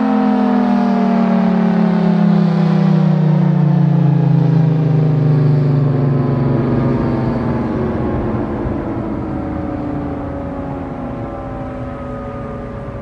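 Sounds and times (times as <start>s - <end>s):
warning siren winding down: 0.0s - 13.0s
low hum: 1.4s - 13.0s.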